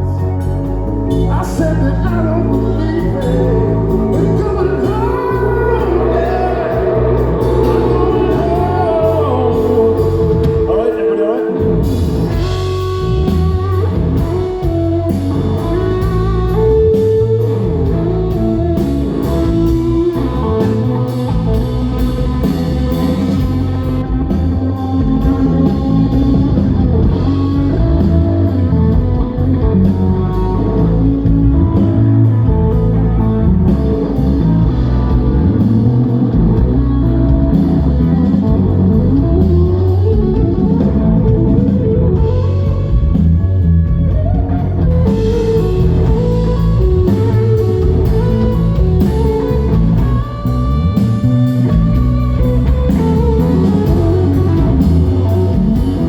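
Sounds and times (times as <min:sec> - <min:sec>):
blues-rock band playing: 0:00.0 - 0:56.0.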